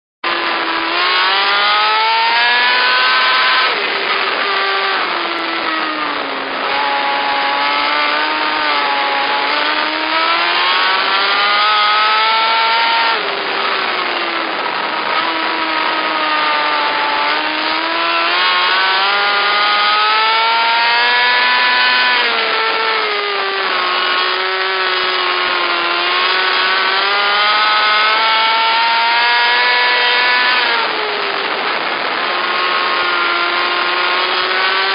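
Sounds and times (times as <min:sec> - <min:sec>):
racing car engines revving: 0:00.2 - 0:34.9.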